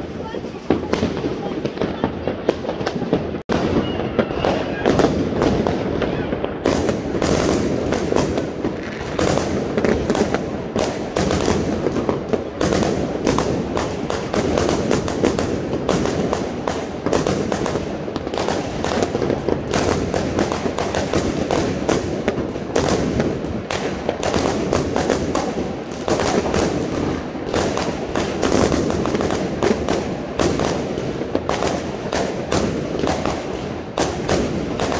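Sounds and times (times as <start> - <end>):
fireworks and firecrackers crackling: 0.0 - 34.9.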